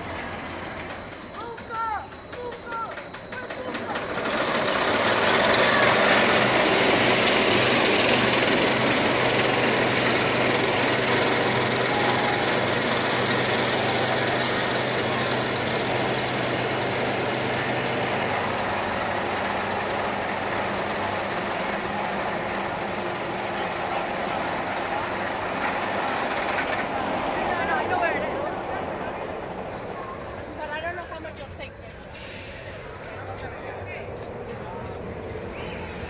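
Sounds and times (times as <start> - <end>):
roller coaster mechanical hum: 0.0 - 36.0
roller coaster rattle: 0.0 - 36.0.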